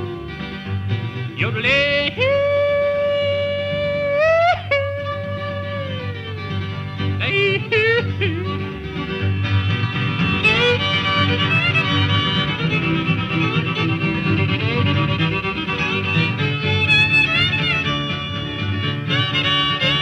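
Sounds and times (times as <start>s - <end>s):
fiddle playing sliding notes: 0.0s - 20.0s
string band rhythm: 0.0s - 20.0s.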